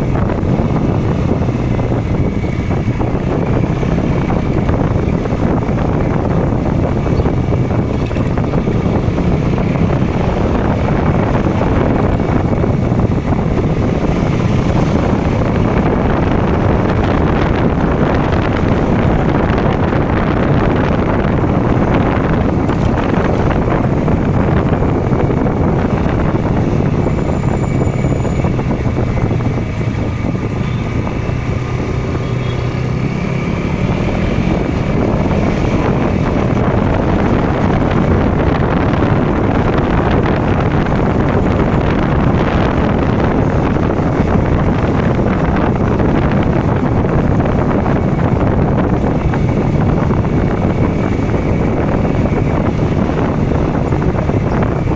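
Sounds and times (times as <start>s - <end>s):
motorcycle engine and exhaust: 0.0s - 54.9s
wind on microphone: 0.0s - 54.9s.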